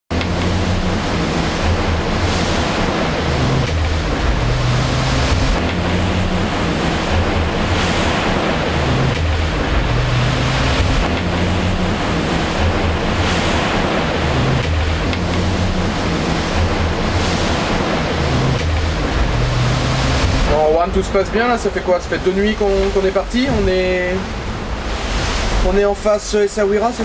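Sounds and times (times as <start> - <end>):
wind buffeting microphone: 0.1 - 26.0
sea rushing past boat: 0.1 - 27.0.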